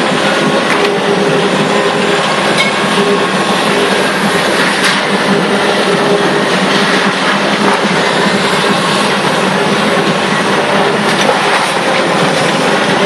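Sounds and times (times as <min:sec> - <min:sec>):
diesel engine drone with rattling: 0:00.0 - 0:13.0.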